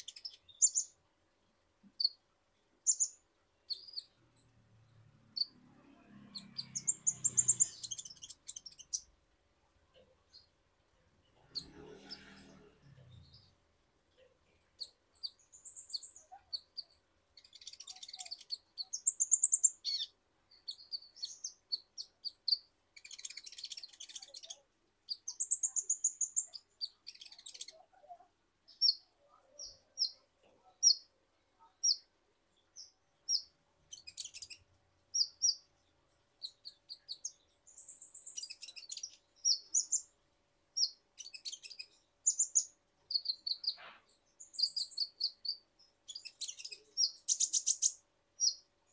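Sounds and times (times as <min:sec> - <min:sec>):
bird twittering song: 0:00.0 - 0:01.0, 0:01.9 - 0:02.2, 0:02.8 - 0:09.2, 0:11.2 - 0:13.6, 0:14.5 - 0:40.2, 0:40.8 - 0:48.9.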